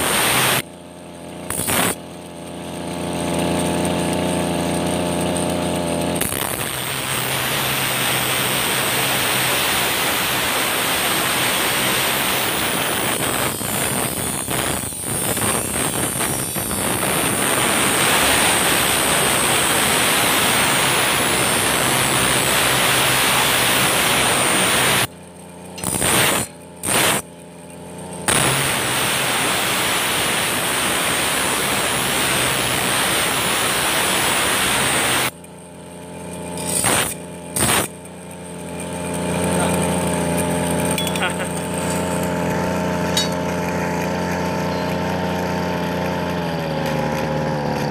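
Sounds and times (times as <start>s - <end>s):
blade grinding on abrasive disc: 0.0s - 47.9s
brush cutter engine drone: 0.0s - 47.9s.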